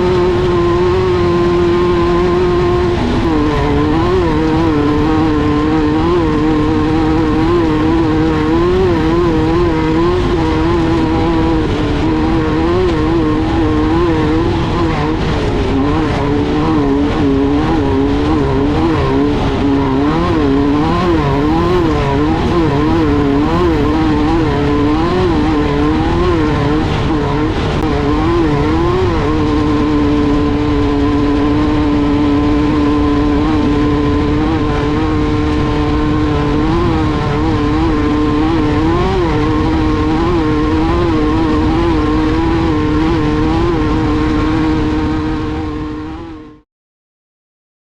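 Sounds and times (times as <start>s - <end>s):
buggy engine running hard: 0.0s - 46.6s.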